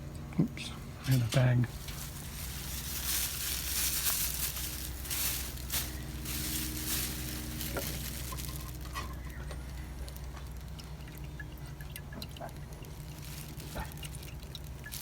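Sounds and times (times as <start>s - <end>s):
steady low hum: 0.0s - 15.0s
fuel dripping and hissing: 0.5s - 15.0s.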